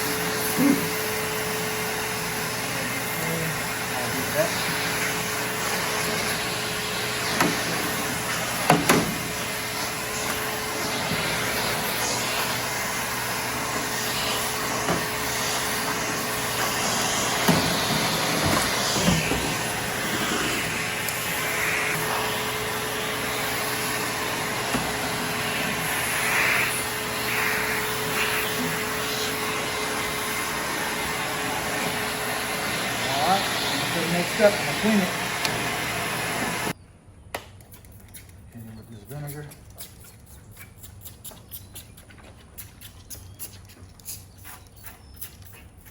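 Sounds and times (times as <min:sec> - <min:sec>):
vacuum cleaner running: 0:00.0 - 0:36.8.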